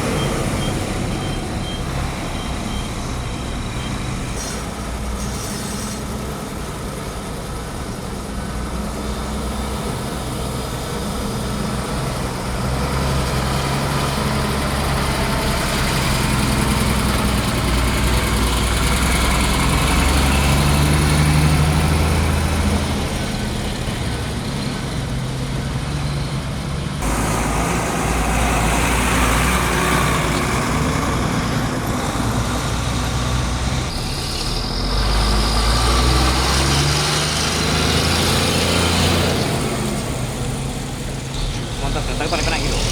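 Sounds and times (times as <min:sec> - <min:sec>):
diesel truck engine revving: 0:00.0 - 0:42.9
truck tipping coal load: 0:00.0 - 0:42.9.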